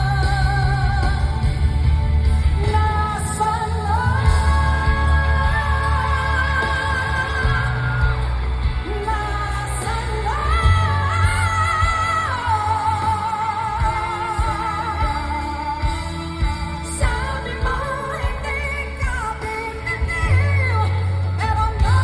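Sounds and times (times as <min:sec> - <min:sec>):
band playing: 0:00.0 - 0:22.0
person singing pop ballad: 0:00.0 - 0:22.0.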